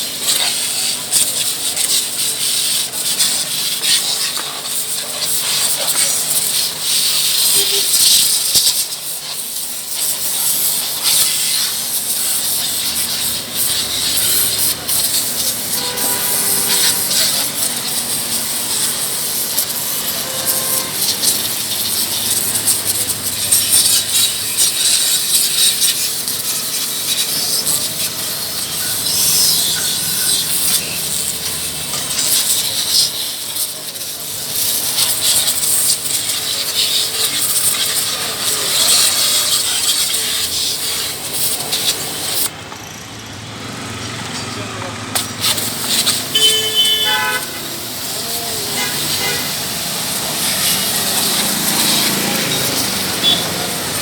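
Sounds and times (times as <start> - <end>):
pressure washer spraying: 0.0 - 42.6, 44.8 - 54.0.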